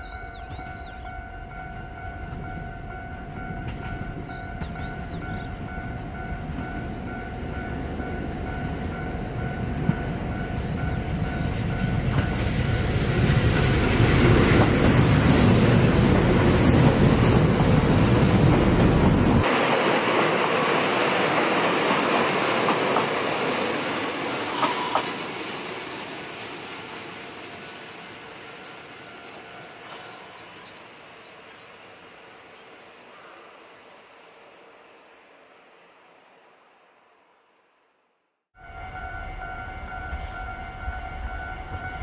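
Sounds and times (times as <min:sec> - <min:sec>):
train wheels on rails: 0:00.0 - 0:36.2
diesel railcar passing: 0:00.0 - 0:37.9, 0:38.6 - 0:42.0.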